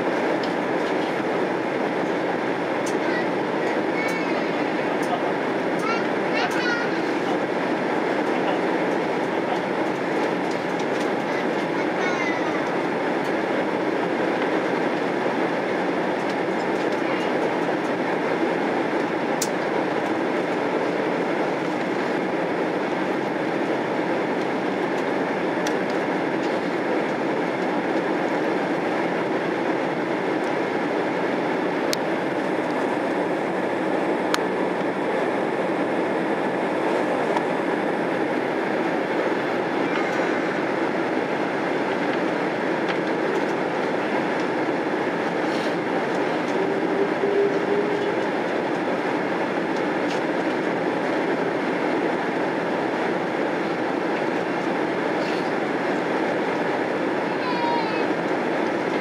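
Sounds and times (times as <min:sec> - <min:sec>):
airliner cabin engine roar: 0:00.0 - 0:59.0.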